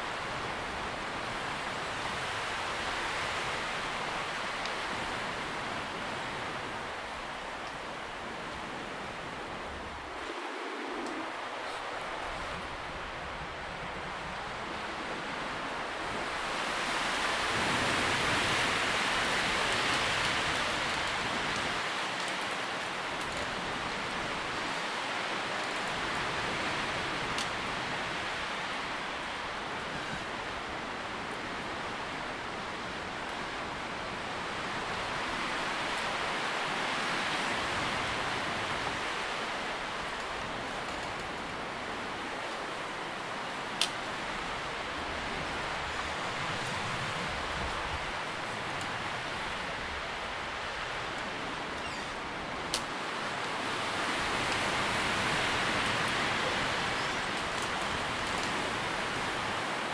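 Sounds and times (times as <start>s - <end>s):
wind rustling leaves: 0.0s - 59.9s.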